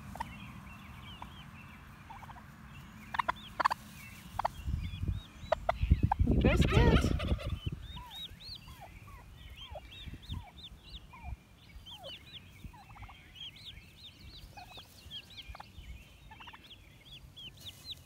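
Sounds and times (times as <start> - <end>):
hen turkey soft calls: 0.0 - 5.0, 5.6 - 18.0
turkey poults peeping: 0.0 - 18.0.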